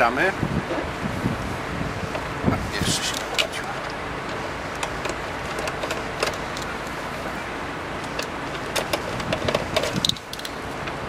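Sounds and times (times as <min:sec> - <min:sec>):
vehicle hum: 0:00.0 - 0:11.0.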